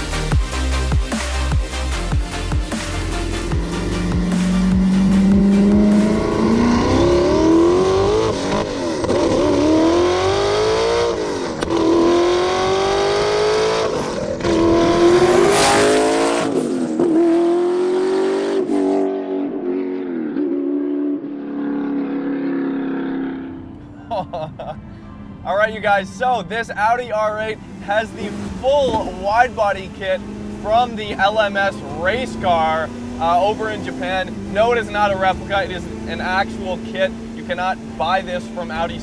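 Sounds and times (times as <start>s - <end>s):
car engine accelerating hard: 2.4s - 23.8s, 27.3s - 39.0s.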